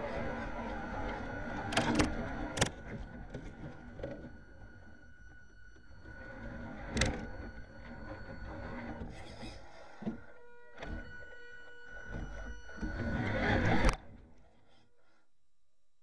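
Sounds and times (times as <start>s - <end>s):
electric motor and gearbox whining: 0.0s - 14.5s.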